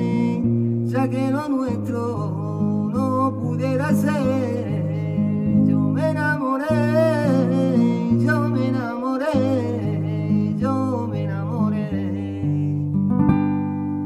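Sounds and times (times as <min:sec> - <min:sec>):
man singing wordless line: 0:00.0 - 0:13.1
guitar with bass and chords: 0:00.0 - 0:14.0.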